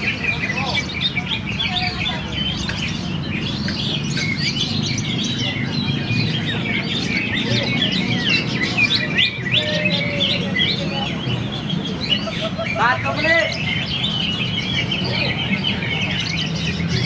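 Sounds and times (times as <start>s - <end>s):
many songbirds singing: 0.0s - 17.0s.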